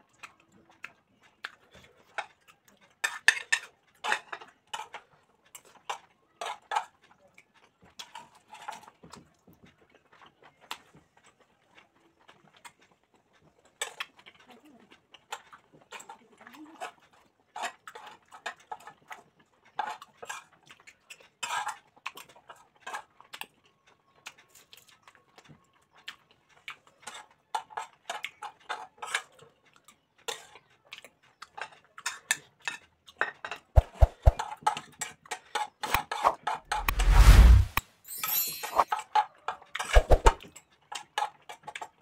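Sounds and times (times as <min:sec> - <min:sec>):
chewing: 0:00.0 - 0:36.4, 0:40.4 - 0:42.0.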